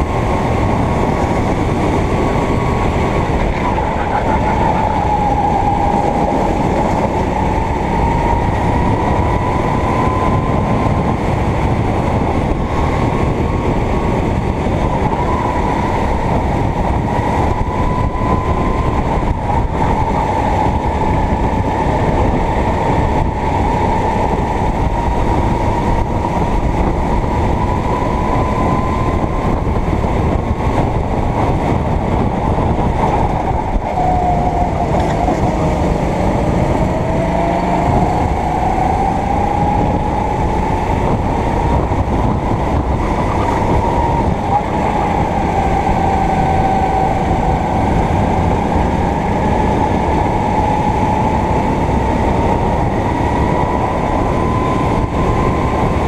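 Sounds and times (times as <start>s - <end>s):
go-kart engine at high revs: 0.0s - 56.0s.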